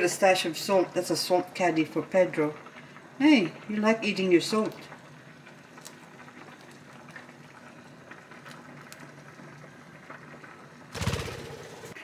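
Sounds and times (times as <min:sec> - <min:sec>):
pasta water boiling: 0:00.0 - 0:12.0.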